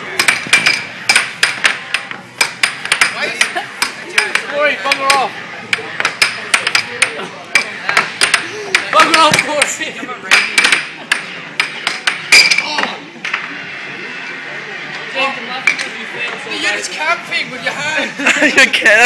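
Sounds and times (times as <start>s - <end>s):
air hockey puck and mallets clacking: 0.0s - 13.6s, 14.3s - 16.4s.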